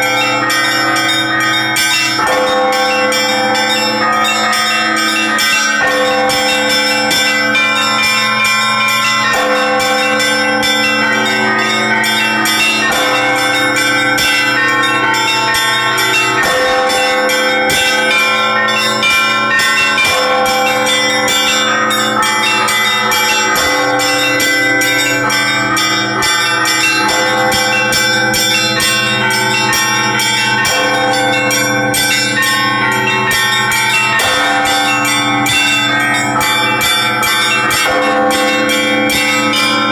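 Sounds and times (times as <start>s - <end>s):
church bells pealing: 0.0s - 39.9s
lower bells ringing steadily: 0.0s - 39.9s.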